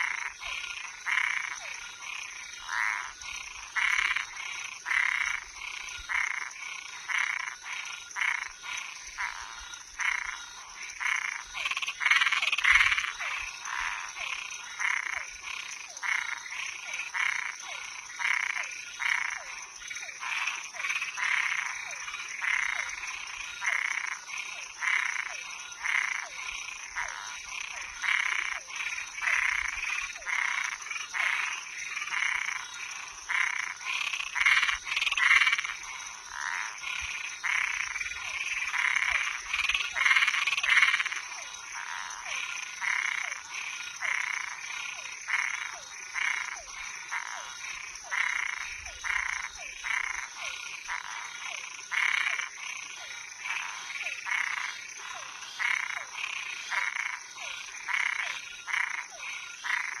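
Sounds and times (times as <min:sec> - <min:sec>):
frogs calling: 0:00.0 - 1:00.0.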